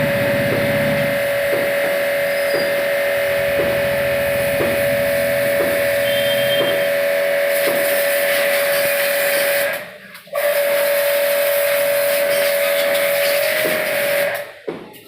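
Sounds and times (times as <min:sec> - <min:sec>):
water jet spraying: 0:00.0 - 0:09.8, 0:10.6 - 0:14.4
pump whining: 0:00.0 - 0:14.4.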